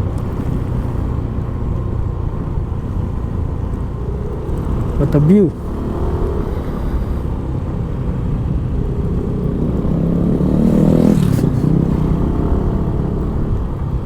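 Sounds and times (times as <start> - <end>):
scooter engine climbing under load: 0.0 - 14.0.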